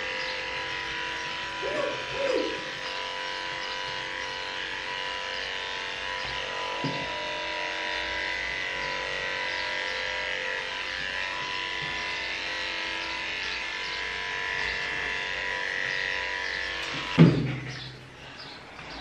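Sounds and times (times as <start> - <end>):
electric clippers buzzing: 0.0 - 19.0.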